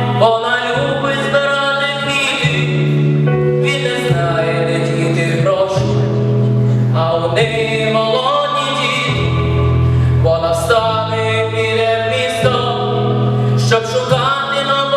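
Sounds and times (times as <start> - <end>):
instrumental backing with bass: 0.0 - 14.9
person singing: 0.0 - 14.9.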